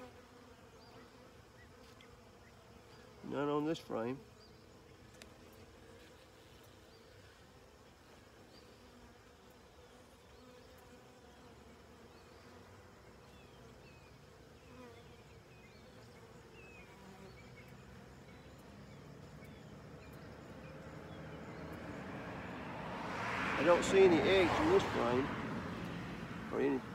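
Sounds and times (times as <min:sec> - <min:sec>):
bees buzzing: 0:00.0 - 0:26.9.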